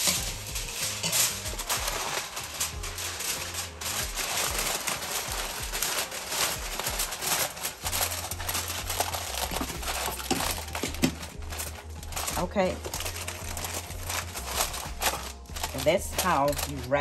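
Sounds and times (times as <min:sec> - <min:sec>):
aluminum foil crinkling: 0:00.0 - 0:17.0.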